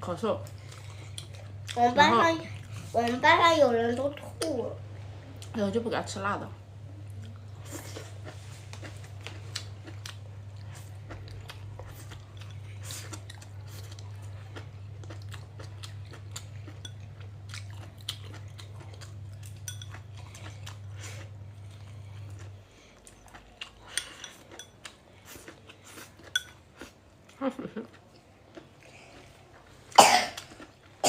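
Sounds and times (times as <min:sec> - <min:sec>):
steady low hum: 0:00.0 - 0:31.0
chewing and crunching food: 0:00.2 - 0:03.2, 0:06.9 - 0:31.0.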